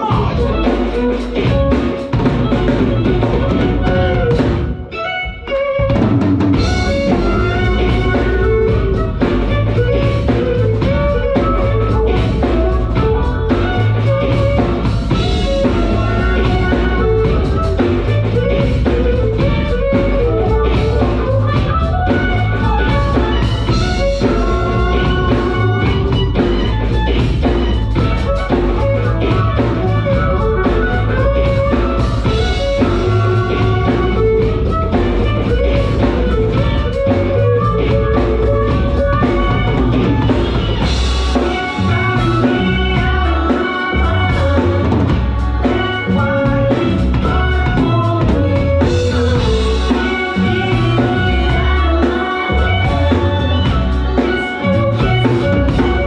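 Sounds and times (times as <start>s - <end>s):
heavy drum beat: 0.0s - 56.0s
violins playing melody: 0.0s - 56.0s.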